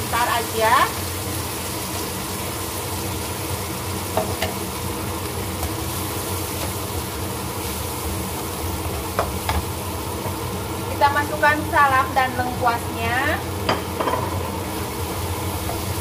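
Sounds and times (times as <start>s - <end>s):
paste sizzling in oil: 0.0s - 16.0s.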